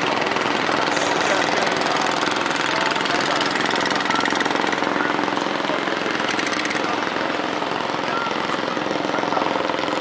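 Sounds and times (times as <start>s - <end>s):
boat engine puttering: 0.0s - 10.0s.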